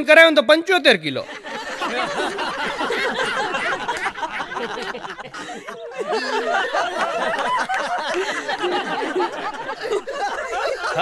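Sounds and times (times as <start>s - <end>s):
audience laughing: 1.2s - 11.0s.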